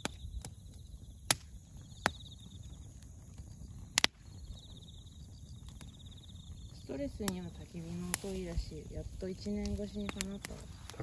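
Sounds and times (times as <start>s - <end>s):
crickets chirping: 0.0s - 11.0s
fire popping: 0.0s - 11.0s
wood bonfire crackling: 0.0s - 11.0s.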